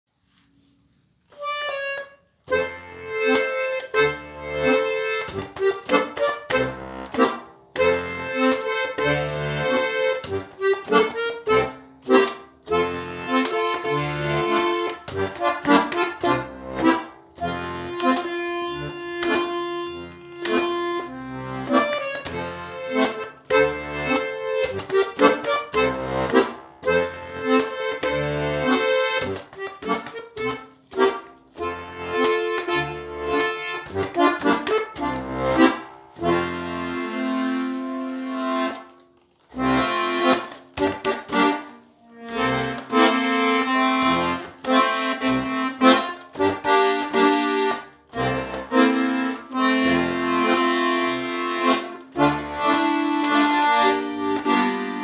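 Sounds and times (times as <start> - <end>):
button accordion playing swing tune: 0.3 - 55.0.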